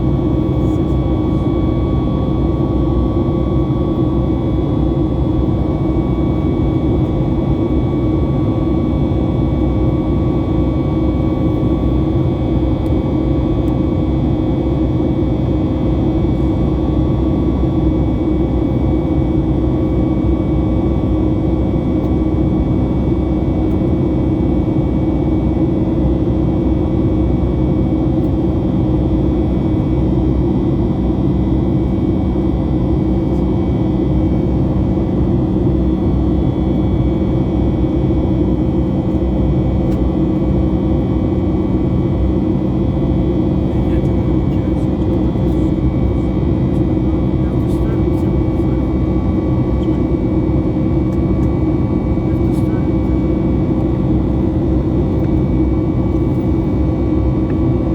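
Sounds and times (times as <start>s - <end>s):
jet engine rumble in cabin: 0.0s - 57.9s.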